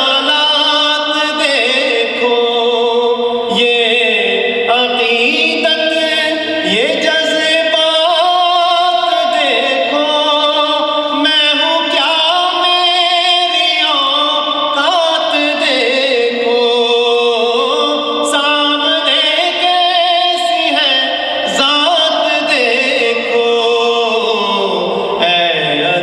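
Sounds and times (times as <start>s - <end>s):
man singing into a microphone: 0.0s - 26.0s.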